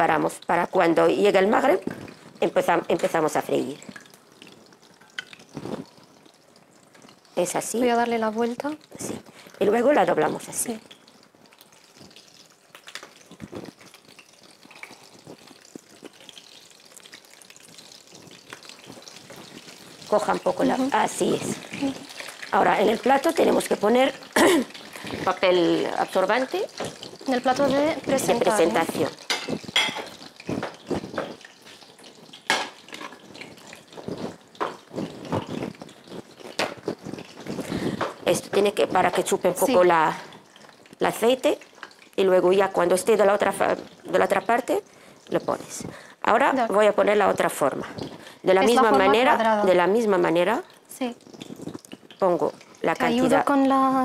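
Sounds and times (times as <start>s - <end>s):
hot oil sizzling and crackling: 0.0s - 54.0s.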